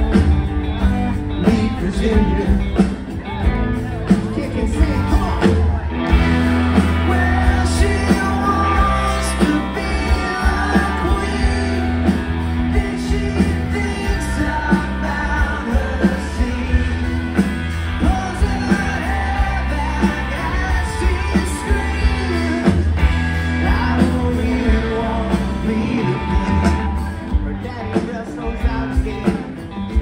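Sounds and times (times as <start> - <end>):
electric bass: 0.0 - 30.0
guitar: 0.0 - 30.0
steady drum beat: 0.0 - 30.0
person singing: 1.2 - 30.0.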